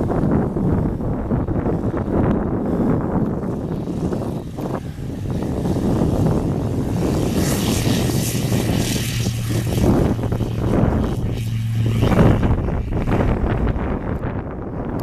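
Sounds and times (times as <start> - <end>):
light aircraft propeller engine: 0.0 - 15.0.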